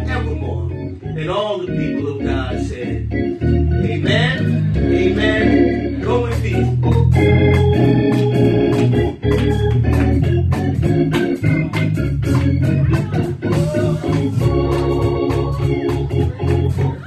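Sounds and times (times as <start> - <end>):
church organ playing: 0.0 - 17.0
sharp rhythmic strikes: 0.0 - 17.0.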